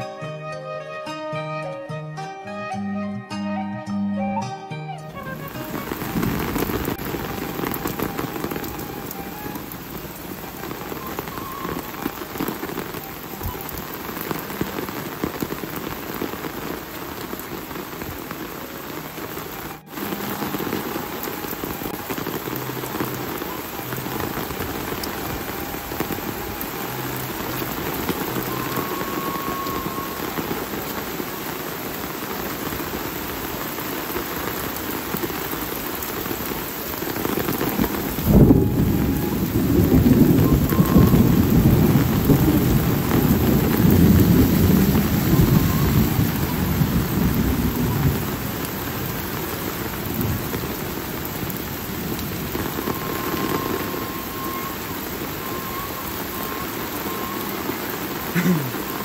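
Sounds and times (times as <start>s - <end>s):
steady rain falling: 3.9s - 59.0s.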